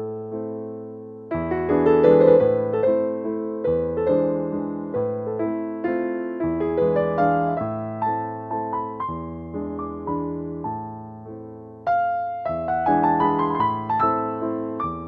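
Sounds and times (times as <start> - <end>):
electric piano music: 0.0 - 15.0.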